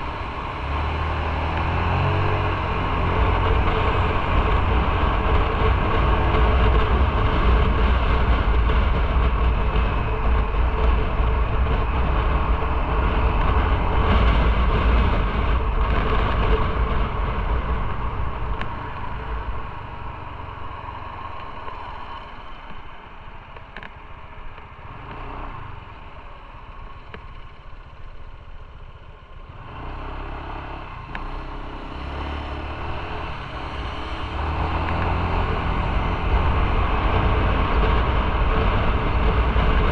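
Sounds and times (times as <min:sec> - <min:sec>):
wind rush: 0:00.0 - 0:27.7, 0:31.7 - 0:39.9
motorcycle engine rumbling: 0:00.0 - 0:39.9.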